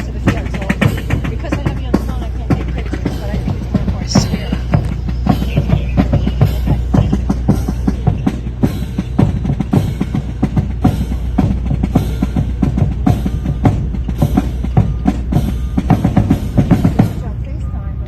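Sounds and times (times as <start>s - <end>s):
fast snare and bass drums: 0.0s - 17.4s
steady low rumble: 0.0s - 18.0s.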